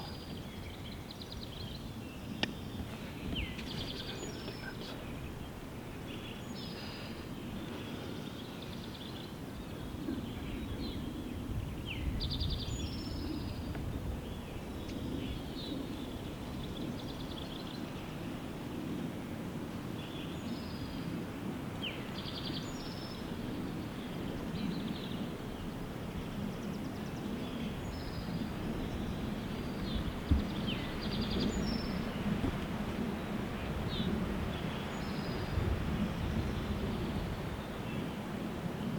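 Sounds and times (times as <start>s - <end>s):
songbirds singing: 0.0s - 38.9s
wind rumble on microphone: 0.0s - 38.9s.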